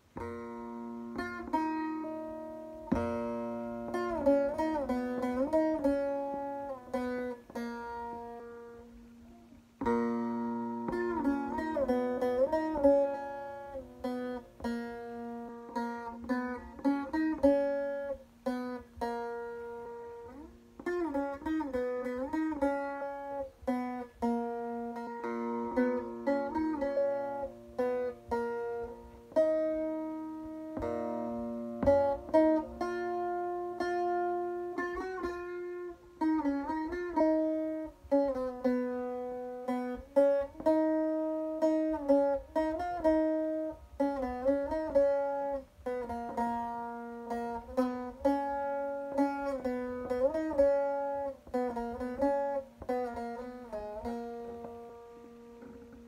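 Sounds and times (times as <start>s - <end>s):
plucked long-necked lute melody: 0.0s - 56.0s.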